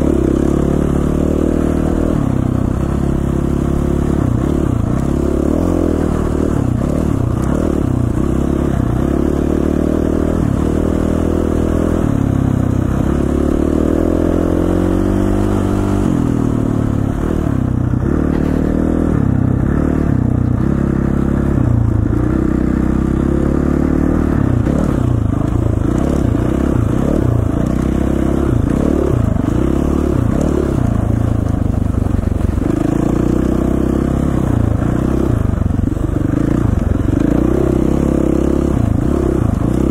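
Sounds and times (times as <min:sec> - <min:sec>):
dirt bike engine revving: 0:00.0 - 0:31.4, 0:32.0 - 0:39.9.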